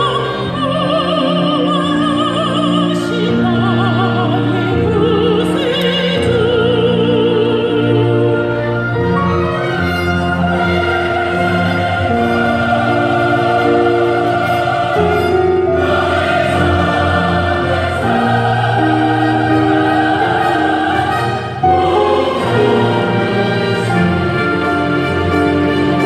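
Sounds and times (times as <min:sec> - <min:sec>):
choir singing: 0:00.0 - 0:26.0
instrumental accompaniment: 0:00.0 - 0:26.0.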